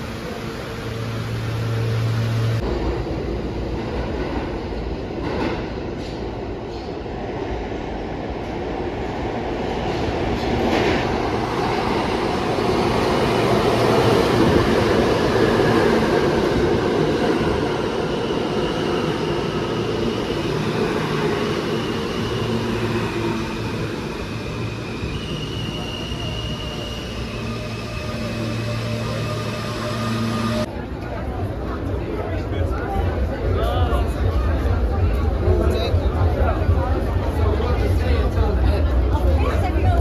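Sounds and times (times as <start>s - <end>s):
subway train rumbling: 0.0s - 40.0s.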